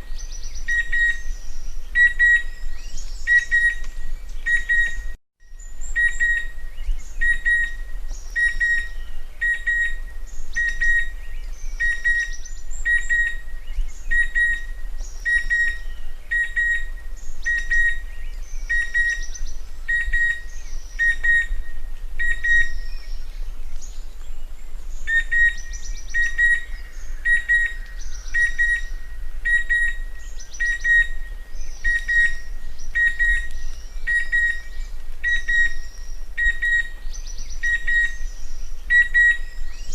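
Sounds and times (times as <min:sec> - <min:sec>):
cuckoo calling shrill whistles: 0:02.0 - 0:05.2, 0:07.2 - 0:11.1, 0:11.8 - 0:18.0, 0:18.6 - 0:23.1, 0:25.0 - 0:38.3, 0:38.9 - 0:39.9.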